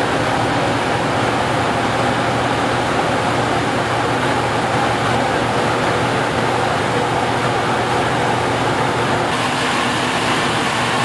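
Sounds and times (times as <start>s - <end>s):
heavy engine running under load: 0.0s - 11.0s.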